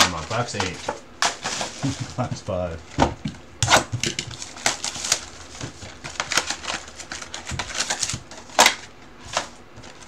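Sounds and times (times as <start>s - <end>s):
foil packs crinkling and rustling: 0.0s - 3.0s, 3.7s - 10.0s.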